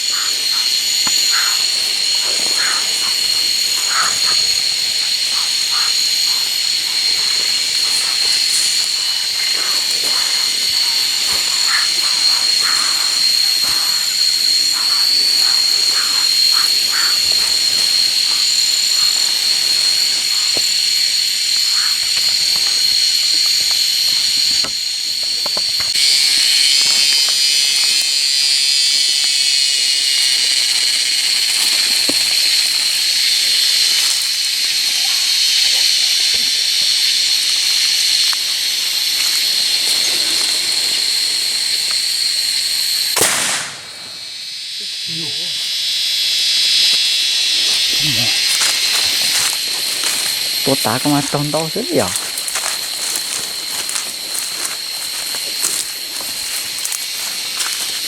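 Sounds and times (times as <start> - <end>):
high-pitched insect drone: 0.0 - 58.0
short frog calls: 0.0 - 58.0.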